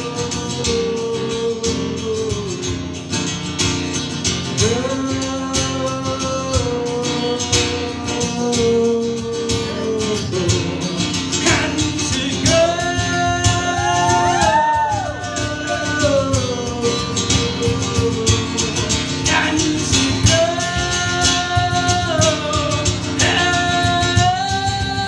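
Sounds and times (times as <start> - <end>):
man singing: 0.0 - 3.0, 4.4 - 25.0
strummed acoustic guitar: 0.0 - 25.0.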